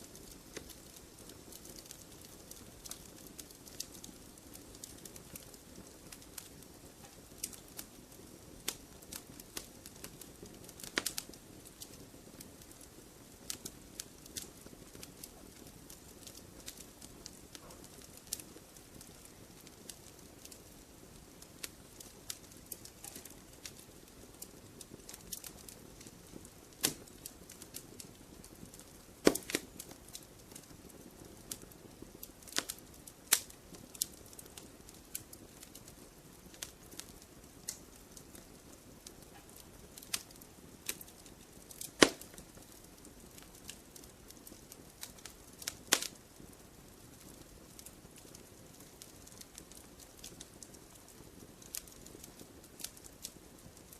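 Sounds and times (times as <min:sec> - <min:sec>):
campfire wood crackling: 0:00.0 - 0:53.9
low rush of burning fire: 0:00.0 - 0:53.9.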